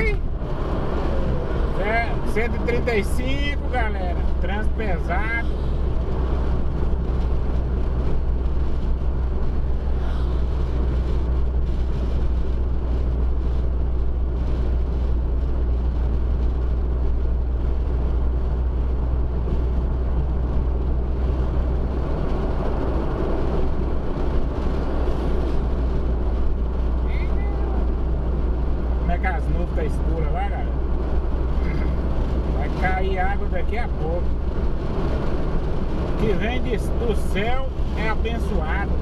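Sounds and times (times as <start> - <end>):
car road and engine rumble: 0.0 - 39.0.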